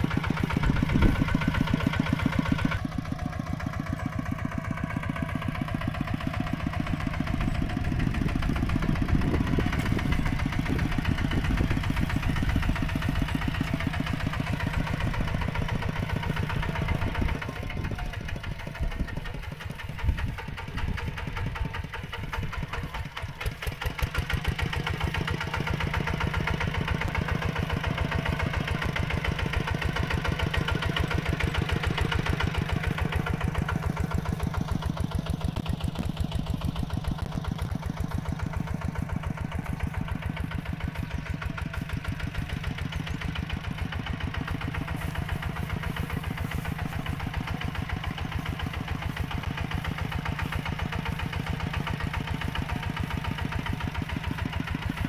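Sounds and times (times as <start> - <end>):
tractor engine chugging: 0.0 - 55.0.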